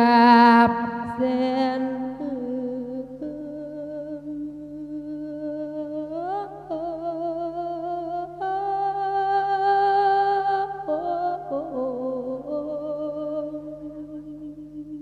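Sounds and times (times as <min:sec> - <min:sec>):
person chanting a long note: 0:00.0 - 0:15.0.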